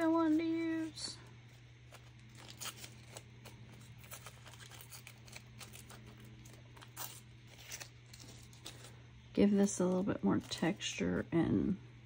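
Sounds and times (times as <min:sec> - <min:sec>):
tissue paper rustling: 0:00.0 - 0:10.8
low steady hum: 0:00.0 - 0:12.0.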